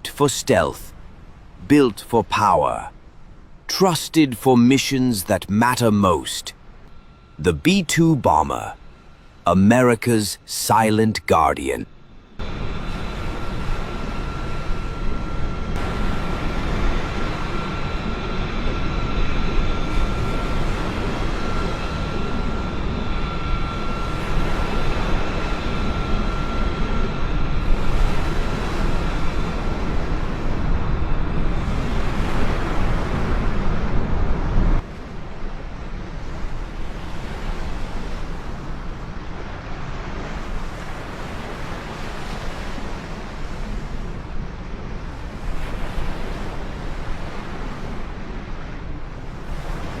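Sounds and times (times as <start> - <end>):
high jet engine whine: 0.0 - 50.0
jet engine rush: 3.7 - 50.0.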